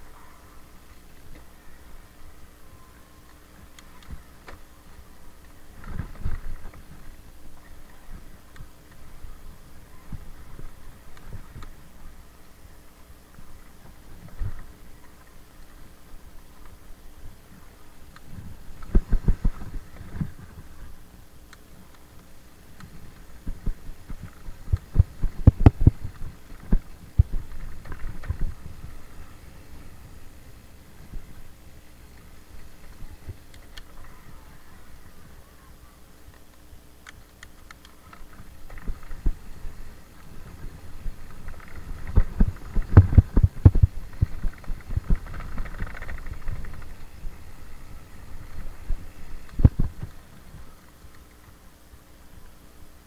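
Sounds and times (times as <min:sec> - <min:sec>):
bike rattling on bumpy trail: 0:00.0 - 0:35.5, 0:36.4 - 0:51.8.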